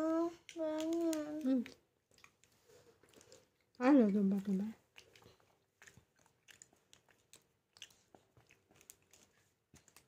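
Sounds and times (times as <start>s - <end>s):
chewing and biting food: 0.4s - 10.0s.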